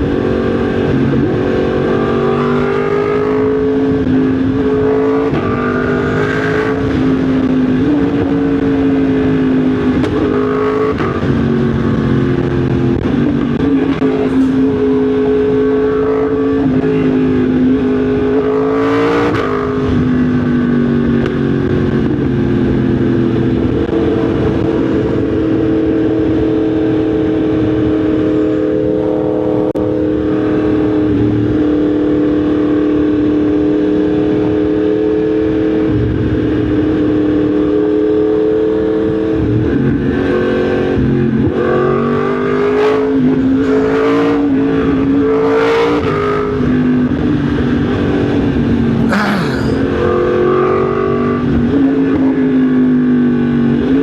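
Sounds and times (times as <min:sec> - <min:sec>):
motorcycle engine on the road: 0:00.0 - 0:54.0.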